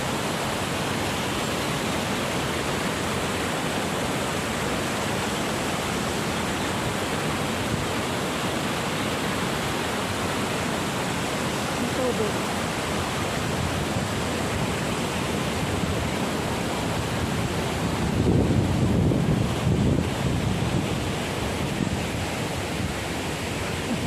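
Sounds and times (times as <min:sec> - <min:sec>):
rushing falling water: 0:00.0 - 0:24.0.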